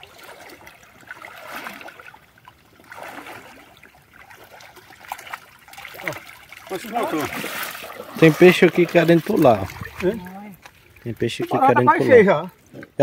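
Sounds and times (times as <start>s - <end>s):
shallow water trickling: 0.0s - 13.0s.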